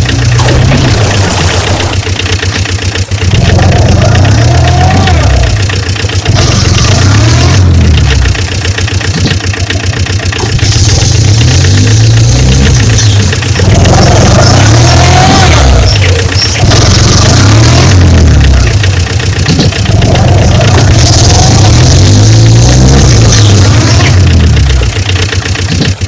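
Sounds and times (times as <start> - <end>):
engine with rapid knocking pulse: 0.0 - 26.0.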